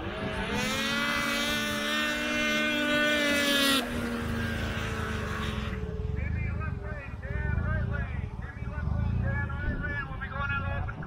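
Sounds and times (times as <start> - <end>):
snowmobile engines revving: 0.0 - 11.0.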